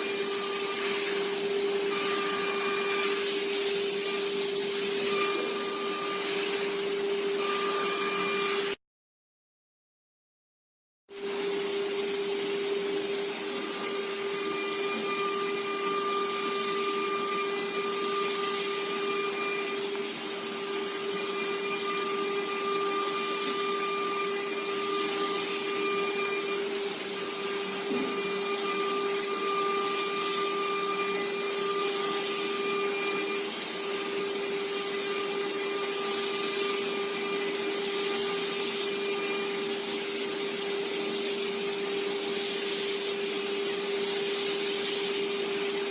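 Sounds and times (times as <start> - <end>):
axis drive motors whining: 0.0 - 8.7, 11.5 - 45.9
drill spindle motor whine: 0.0 - 8.8, 11.1 - 45.9.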